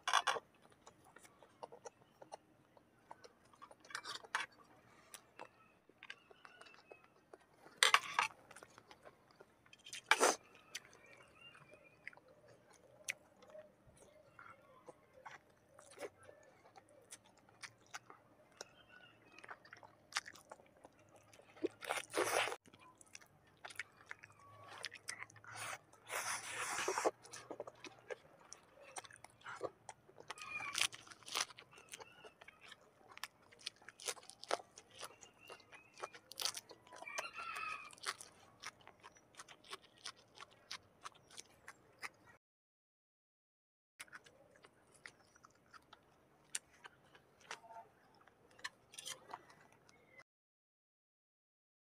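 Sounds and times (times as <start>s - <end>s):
chewing crunching: 0.0s - 42.4s, 44.0s - 50.2s.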